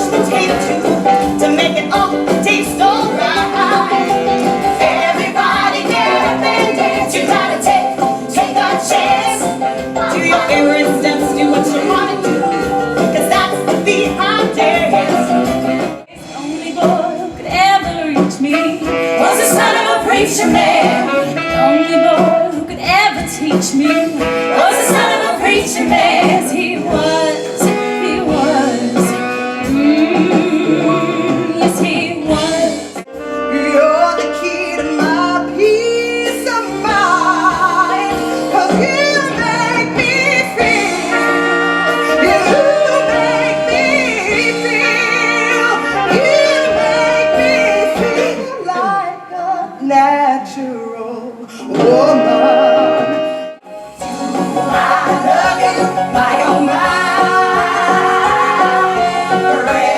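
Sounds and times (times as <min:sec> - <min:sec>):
instrumental backing: 0:00.0 - 0:49.3, 0:51.6 - 0:59.9
women singing pop songs: 0:00.0 - 0:52.2, 0:54.0 - 0:59.9.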